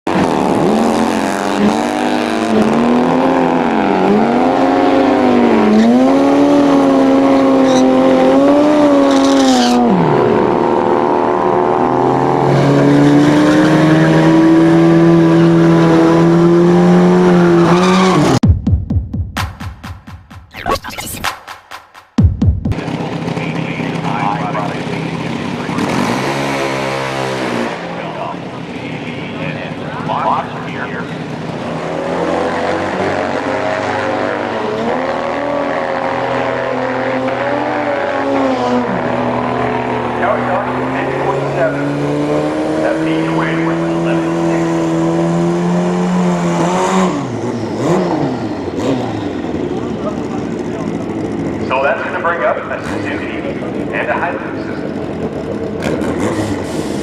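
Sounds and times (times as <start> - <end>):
drag racing motorcycle engines: 0.1 - 18.4, 22.7 - 57.0.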